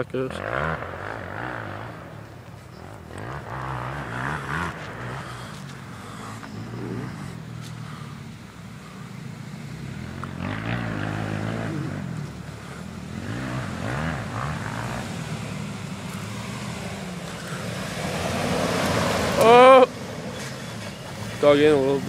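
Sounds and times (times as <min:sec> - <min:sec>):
pickup engine revving: 0:00.0 - 0:22.0.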